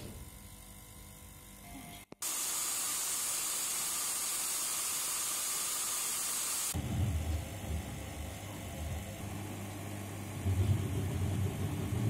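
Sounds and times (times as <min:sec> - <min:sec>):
mixer grinder whirring: 0:02.2 - 0:12.0.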